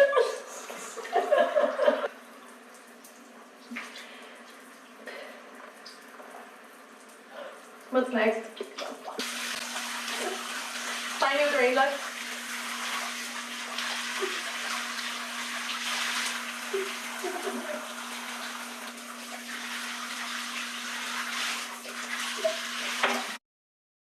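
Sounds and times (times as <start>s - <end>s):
water pouring: 1.2s - 23.4s.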